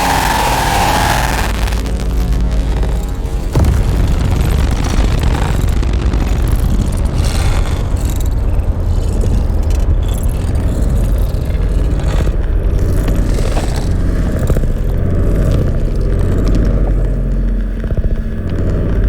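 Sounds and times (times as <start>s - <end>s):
gritty scraping texture: 0.0s - 19.0s
low rumbling drone: 0.0s - 19.0s.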